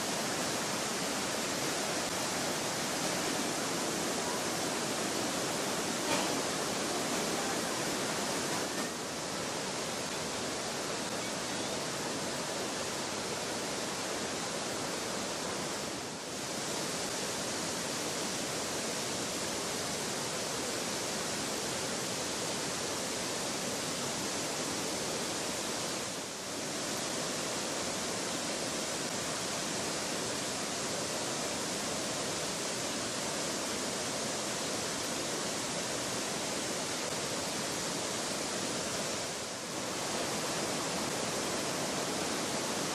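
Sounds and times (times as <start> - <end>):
waterfall rushing over boulders: 0.0 - 42.9.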